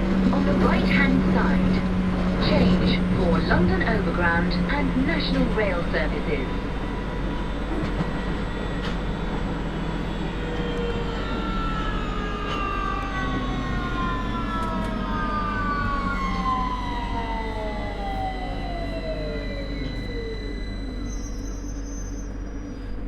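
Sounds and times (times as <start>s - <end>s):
train traction motors whining: 0.0s - 23.0s
wheels rumbling on rail: 0.0s - 23.0s.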